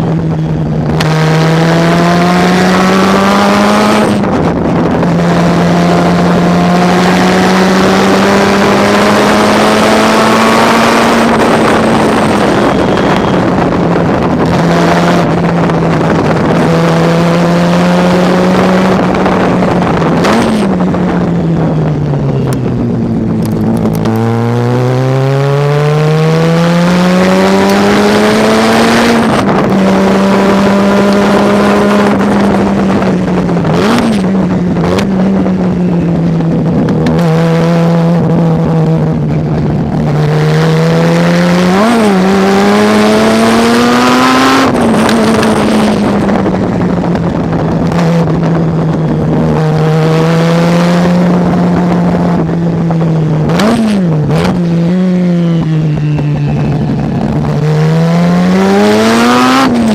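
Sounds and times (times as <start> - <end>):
engine throttle blips: 0.0 - 59.9
rotary engine running hard: 0.0 - 59.9.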